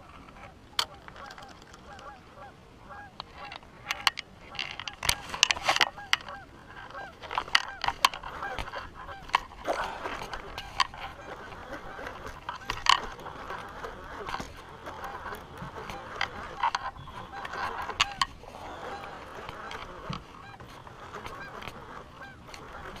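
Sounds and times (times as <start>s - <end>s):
waterfowl calling: 0.3s - 23.0s
fishing reel clicking: 3.2s - 23.0s.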